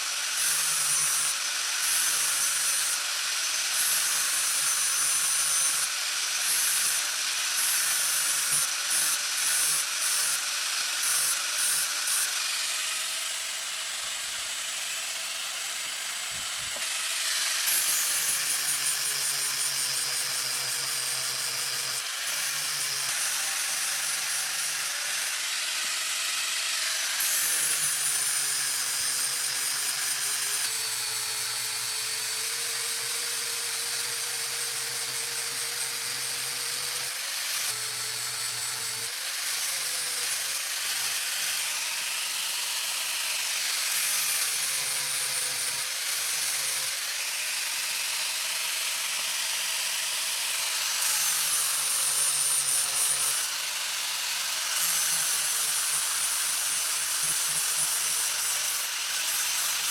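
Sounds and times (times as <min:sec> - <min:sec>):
power tool whining: 0:00.0 - 0:59.9.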